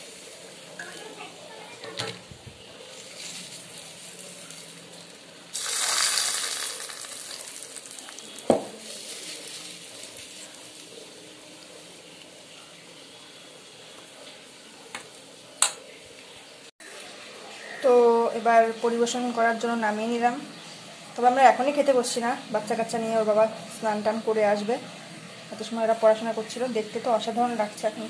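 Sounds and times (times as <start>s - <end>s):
hot oil sizzling: 0.0s - 28.0s.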